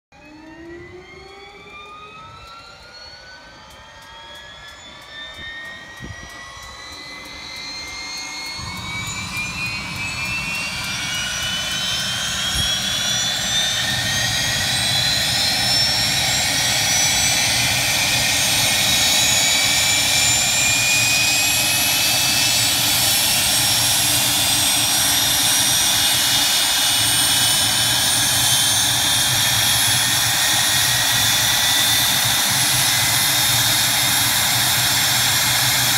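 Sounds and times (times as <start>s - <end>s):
jet engine whine: 0.1s - 35.9s.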